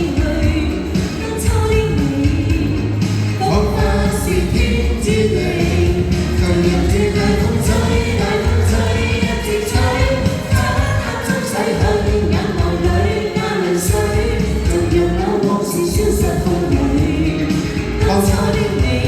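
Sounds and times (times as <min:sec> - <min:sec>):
pop song with singing: 0:00.0 - 0:19.0.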